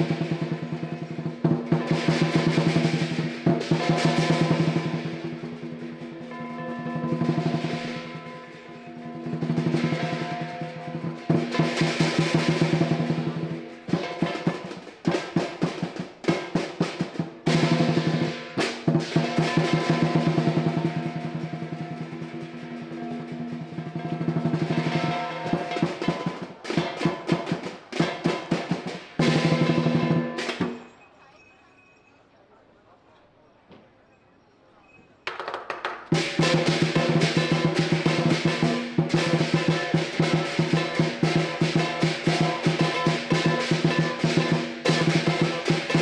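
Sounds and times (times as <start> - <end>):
gong: 0.0 - 14.7, 17.5 - 30.9, 36.2 - 46.0
drum rolls and beats: 0.0 - 30.9, 35.3 - 46.0
cymbals ringing: 0.0 - 32.3, 36.1 - 46.0.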